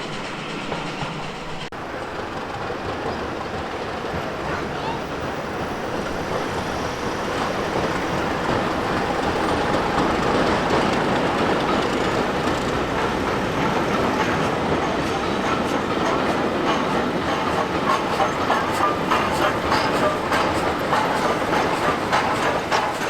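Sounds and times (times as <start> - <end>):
train wheels rolling on track: 0.0 - 23.0.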